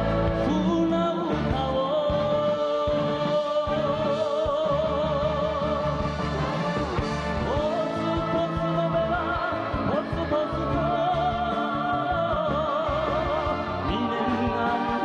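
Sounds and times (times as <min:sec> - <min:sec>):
band music with vibrato melody: 0:00.0 - 0:15.0.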